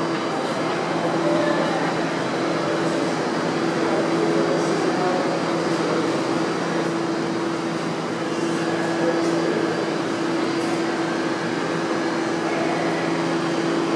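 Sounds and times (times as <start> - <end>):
train equipment humming: 0.0 - 13.9.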